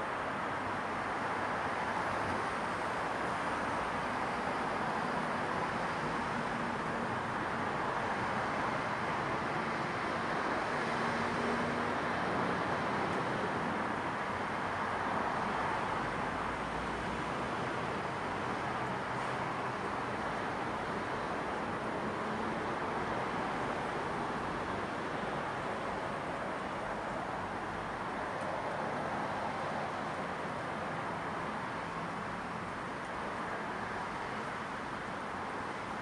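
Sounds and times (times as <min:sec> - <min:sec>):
distant road traffic: 0:00.0 - 0:36.0.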